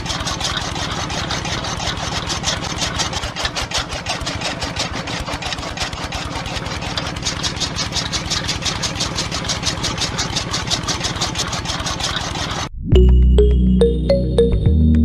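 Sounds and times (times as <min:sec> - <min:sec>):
small motor chugging: 0:00.0 - 0:12.7.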